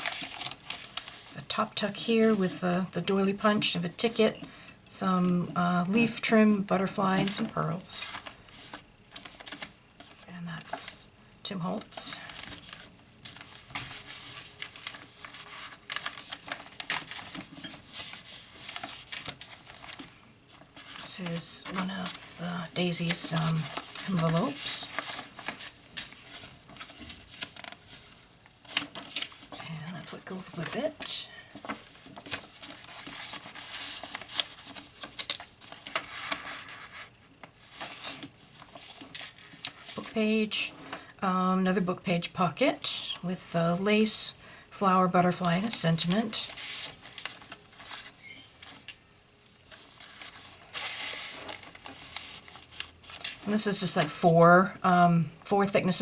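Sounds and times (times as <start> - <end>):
paper rustling and crinkling: 0.0 - 2.6, 5.2 - 10.9, 11.7 - 41.1, 45.3 - 54.3.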